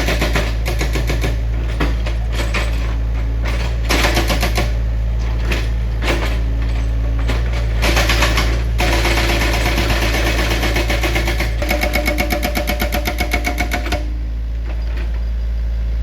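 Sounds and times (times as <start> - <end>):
sharp knocks and clattering: 0.0 - 14.1
diesel engine droning: 0.0 - 16.0.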